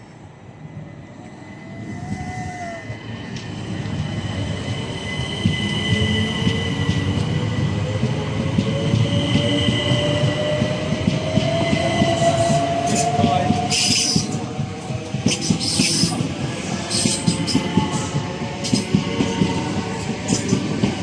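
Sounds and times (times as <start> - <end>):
train wheel rumble: 0.7 - 21.0.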